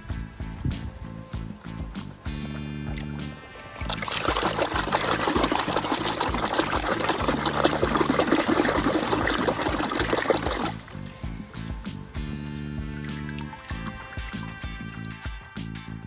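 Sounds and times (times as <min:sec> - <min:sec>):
water pouring and splashing: 0:00.5 - 0:15.2.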